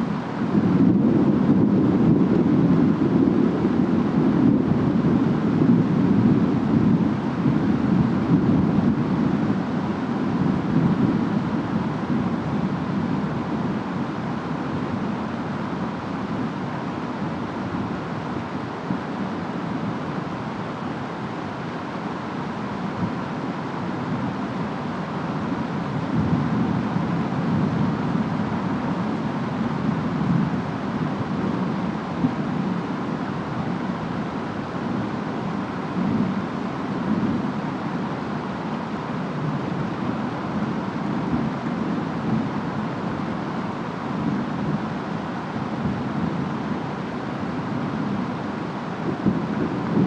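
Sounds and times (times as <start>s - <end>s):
rain: 0.0s - 50.0s
wind: 0.0s - 50.0s.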